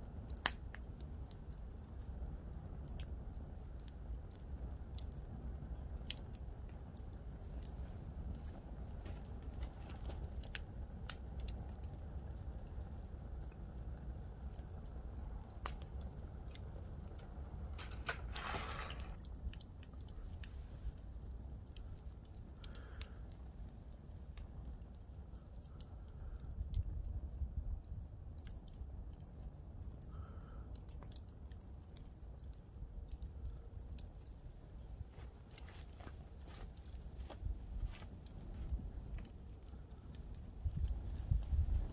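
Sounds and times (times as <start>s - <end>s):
campfire wood crackling and popping: 0.0s - 41.9s.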